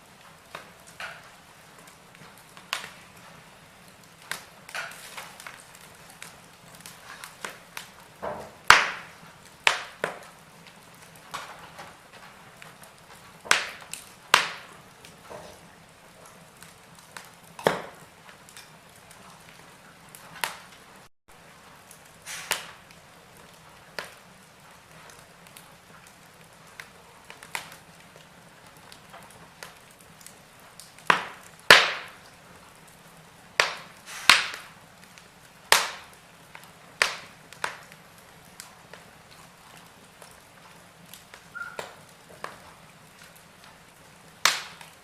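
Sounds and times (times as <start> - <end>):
faint steady hiss: 0.0 - 45.0
fire crackling and popping: 0.0 - 45.0.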